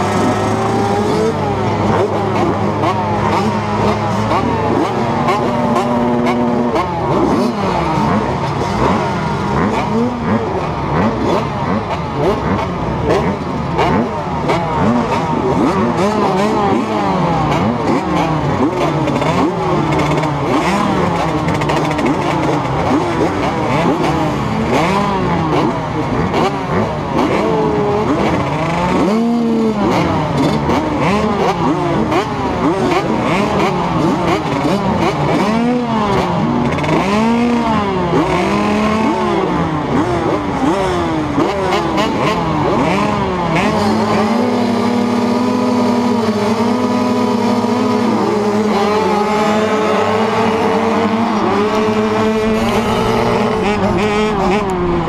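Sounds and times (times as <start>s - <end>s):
close engine revving high: 0.0s - 55.0s
motocross bikes revving: 0.0s - 55.0s.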